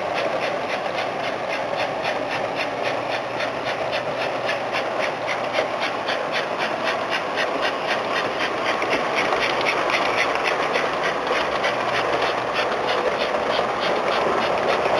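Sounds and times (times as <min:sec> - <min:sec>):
even clicking of wheels: 0:00.0 - 0:14.9
model train rumbling: 0:00.0 - 0:14.9.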